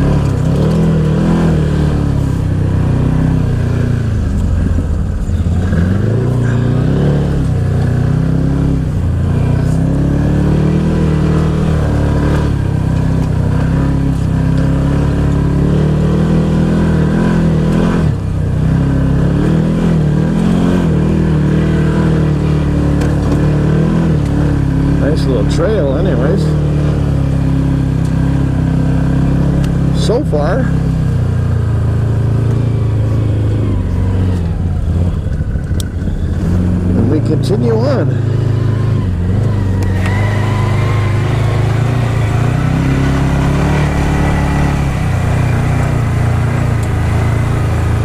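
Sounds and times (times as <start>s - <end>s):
engine revving under load: 0.0s - 48.0s.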